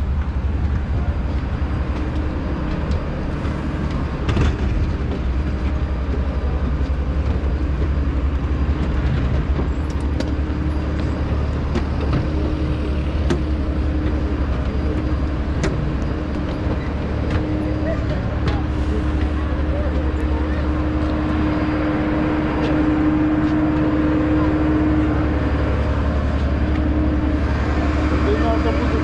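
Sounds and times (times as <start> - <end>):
constant hum: 0.0 - 29.0
low mechanical rumble: 0.0 - 29.0.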